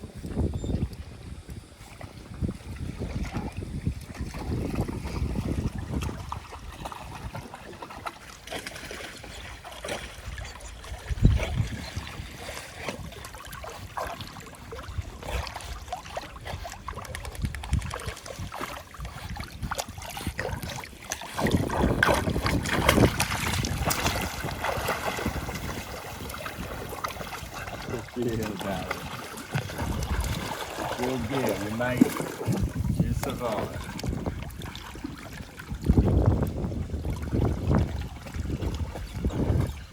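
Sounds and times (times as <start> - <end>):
pool water splashing: 1.0 - 39.9.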